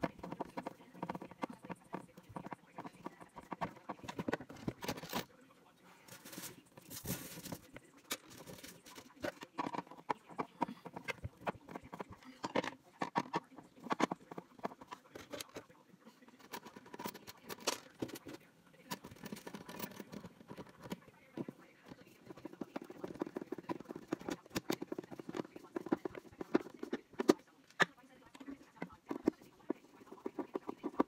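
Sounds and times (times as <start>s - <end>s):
metal clicks taps and scrapes: 0.0s - 5.3s, 6.1s - 31.0s.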